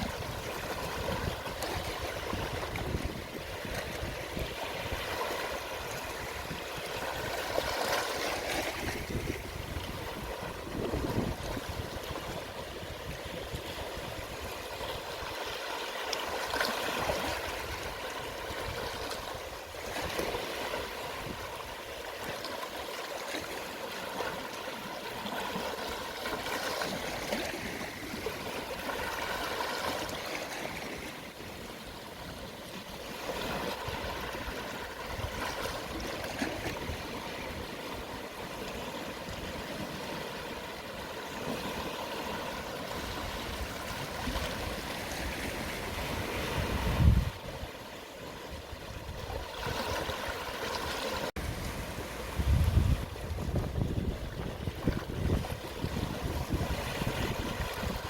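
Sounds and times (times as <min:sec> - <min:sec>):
gentle sea waves washing ashore: 0:00.0 - 0:58.0.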